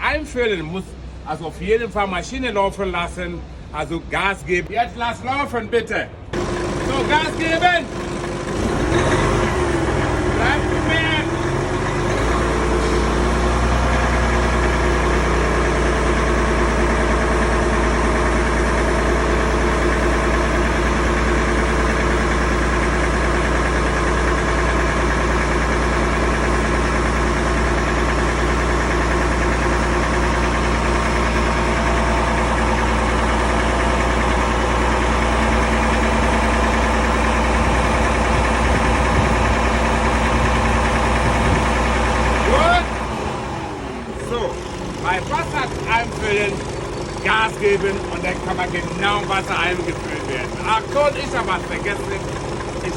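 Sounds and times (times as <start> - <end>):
truck diesel engine running: 0.0 - 52.9.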